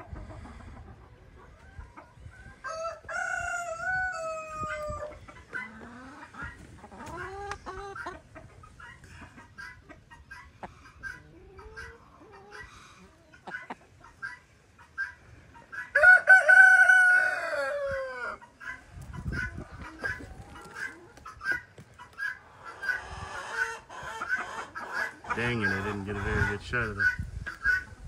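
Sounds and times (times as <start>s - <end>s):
chickens clucking: 0.0s - 28.0s
long drawn-out chicken call: 1.5s - 8.2s, 8.9s - 25.8s.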